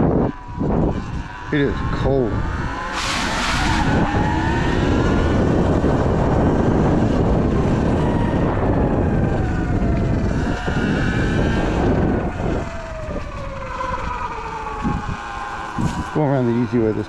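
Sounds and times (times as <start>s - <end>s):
electric motor whining: 0.0s - 17.0s
wind buffeting on microphone: 0.0s - 17.0s.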